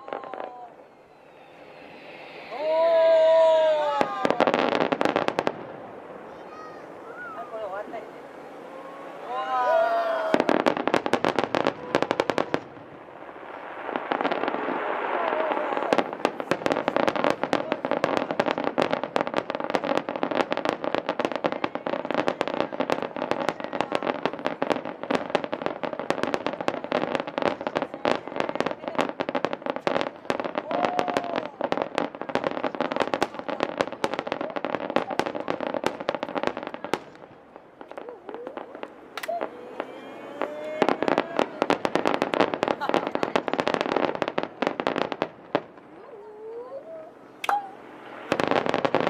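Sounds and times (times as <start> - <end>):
faint fireworks whistles: 0.0 - 49.0.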